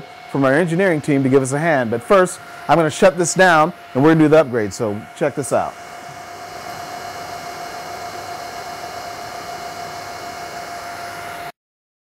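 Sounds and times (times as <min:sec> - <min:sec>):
server cooling fans whooshing: 0:00.0 - 0:11.5.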